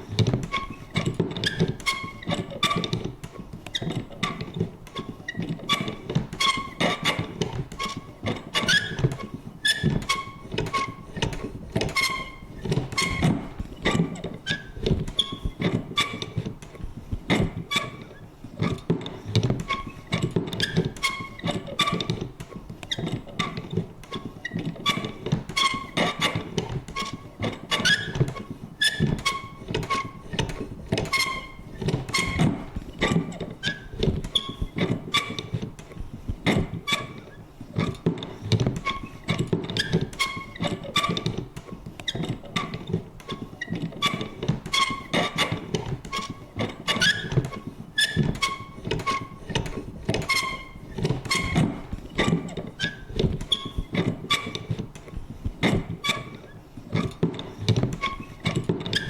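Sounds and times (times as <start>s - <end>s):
paper punch creaking and clunking: 0.0s - 59.0s.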